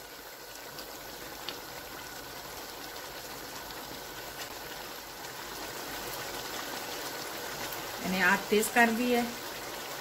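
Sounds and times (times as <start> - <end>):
curry bubbling in a frying pan: 0.0 - 10.0.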